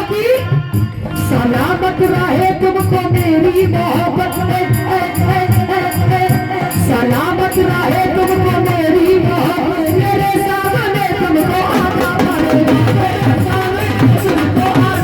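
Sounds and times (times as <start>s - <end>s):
devotional song melody: 0.0s - 15.0s
hand drum beat: 0.6s - 15.0s.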